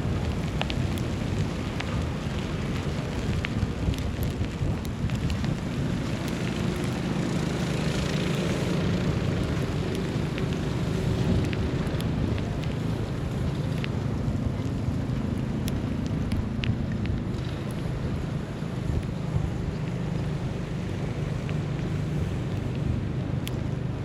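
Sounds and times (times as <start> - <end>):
distant traffic: 0.0 - 24.0
wind rumble: 0.0 - 24.0.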